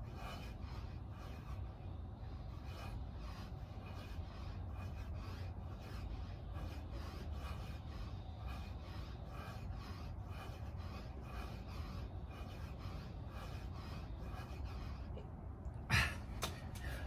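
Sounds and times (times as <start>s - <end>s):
man breathing rhythmically: 0.0s - 17.0s
steady low rumble: 0.0s - 17.0s.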